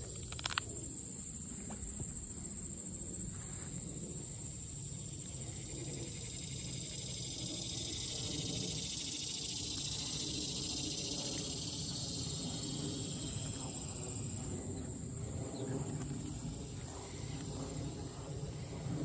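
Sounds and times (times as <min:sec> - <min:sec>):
insect high-pitched trill: 0:00.0 - 0:19.0
pulsing insect chorus: 0:00.0 - 0:19.0.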